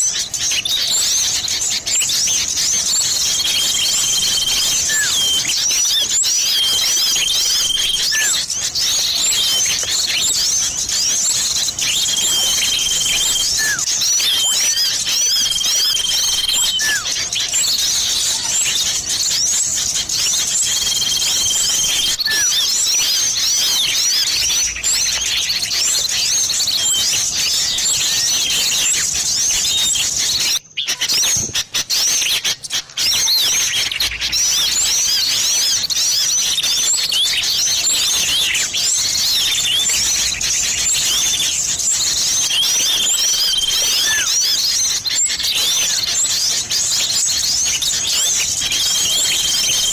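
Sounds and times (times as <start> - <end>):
held bird whistle: 0.0 - 49.9
songbirds chirping: 0.0 - 49.9.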